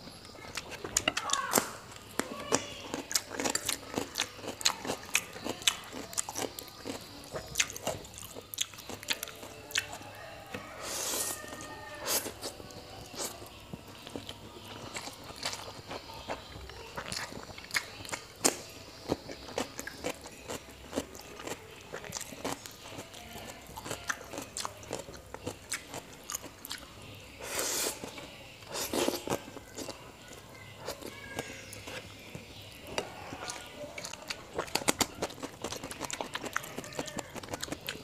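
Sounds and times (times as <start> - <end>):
wet chewing and slurping noodles: 0.0 - 38.0.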